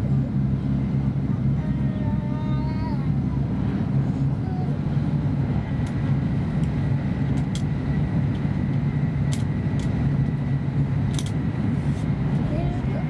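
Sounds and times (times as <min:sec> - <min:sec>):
train cabin low rumble: 0:00.0 - 0:13.0.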